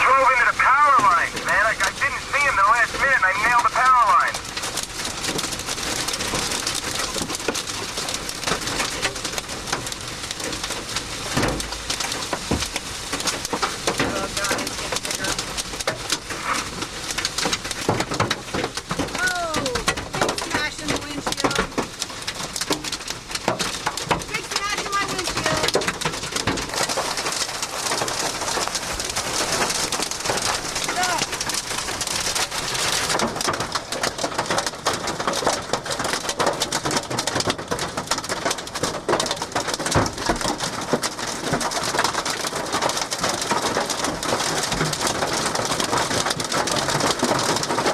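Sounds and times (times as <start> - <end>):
hail pounding on car roof: 0.0 - 47.9.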